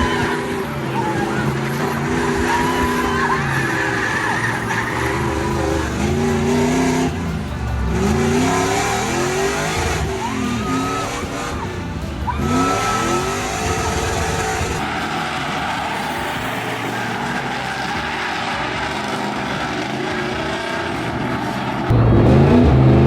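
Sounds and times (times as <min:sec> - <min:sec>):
tyre squeals: 0:00.0 - 0:21.9
car engine revving: 0:00.0 - 0:23.0.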